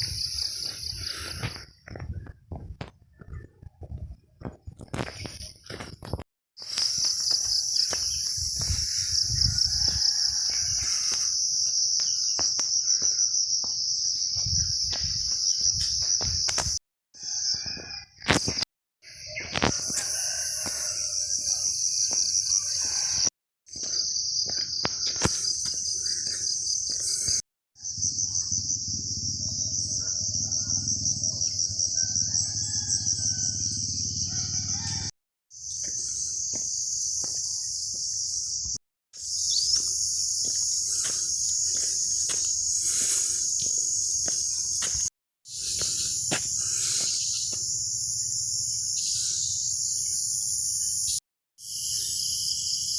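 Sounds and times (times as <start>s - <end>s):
insects chirring: 0.0s - 2.0s, 4.9s - 52.9s.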